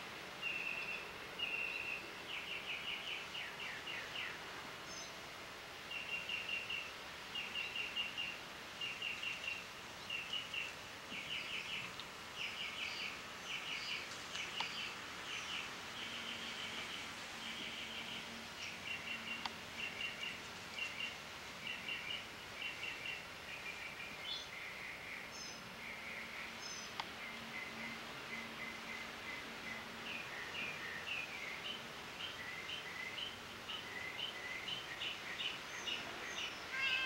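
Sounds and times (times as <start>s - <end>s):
background hiss: 0.0s - 37.0s.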